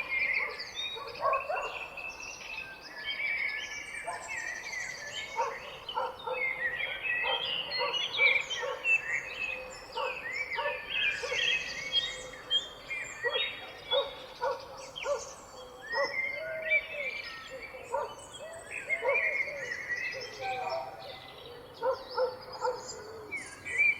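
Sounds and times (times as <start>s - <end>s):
birds singing and chirping: 0.0s - 23.9s.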